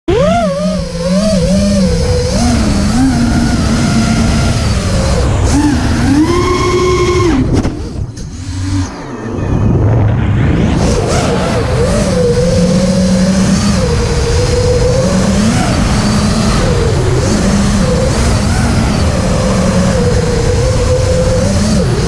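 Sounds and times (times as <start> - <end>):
quadcopter motors whining: 0.1 - 9.4, 10.8 - 22.0
rushing wind noise: 0.8 - 22.0.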